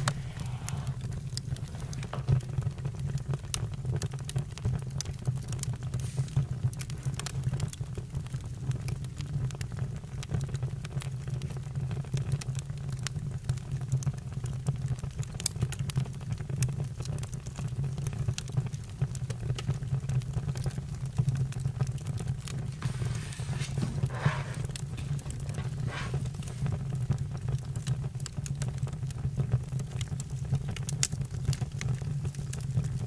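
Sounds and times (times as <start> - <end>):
campfire crackling: 0.0 - 13.2, 14.7 - 33.0.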